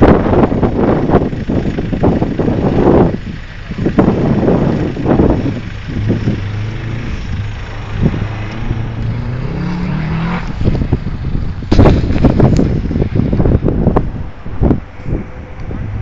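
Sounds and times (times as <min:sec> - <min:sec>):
rally car engine revving: 0:00.0 - 0:16.0
wind buffeting microphone: 0:00.0 - 0:16.0.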